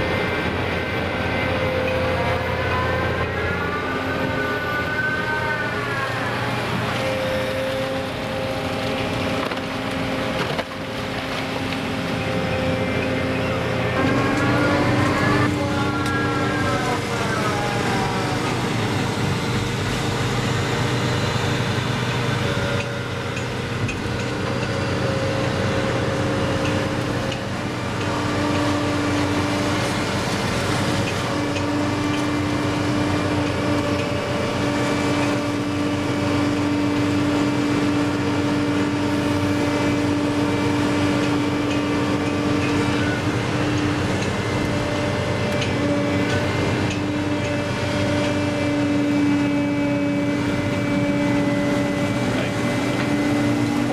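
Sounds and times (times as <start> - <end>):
crane engine and hydraulics humming: 0.0 - 53.9
hydraulic whine bending in pitch: 0.0 - 53.9.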